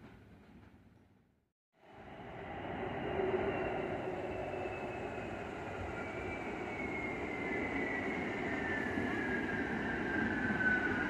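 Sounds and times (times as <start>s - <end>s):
subway train wheels rumbling on rails: 1.8s - 11.0s.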